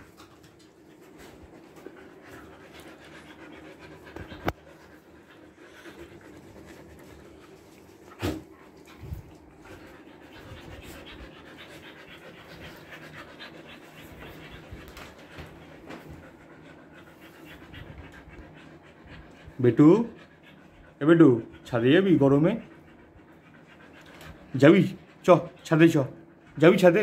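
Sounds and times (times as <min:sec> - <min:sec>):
dog panting fast: 0:00.0 - 0:27.0.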